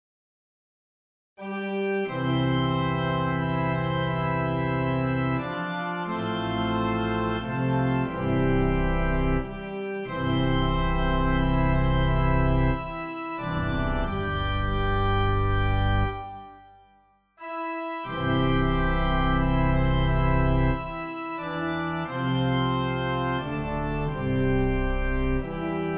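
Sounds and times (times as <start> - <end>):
organ playing slow chords: 1.4 - 25.9.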